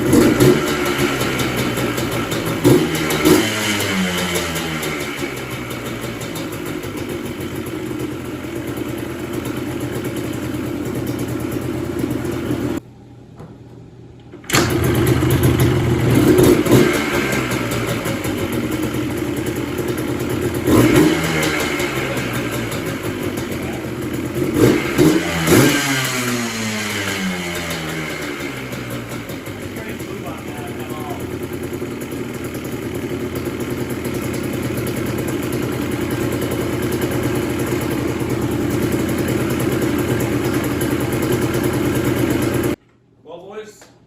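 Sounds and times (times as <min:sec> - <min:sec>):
two-stroke engine revving: 0:00.0 - 0:12.8, 0:14.5 - 0:42.8.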